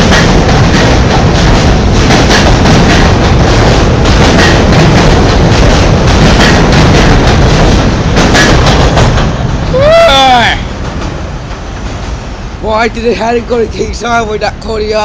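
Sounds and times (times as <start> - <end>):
wheels clacking over rail joints: 0.0 - 9.8, 10.6 - 15.0
subway train rumbling: 0.0 - 15.0.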